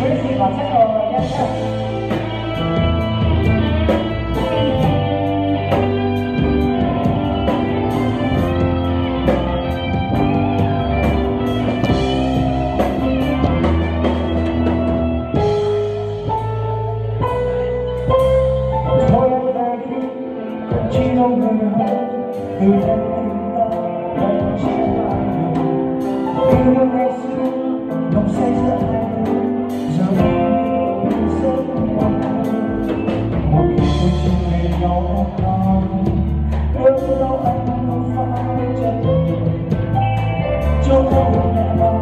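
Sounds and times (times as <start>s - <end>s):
drum kit beat: 0.0s - 19.4s, 20.7s - 42.0s
electronic keyboard: 0.0s - 42.0s
guitar: 0.0s - 42.0s.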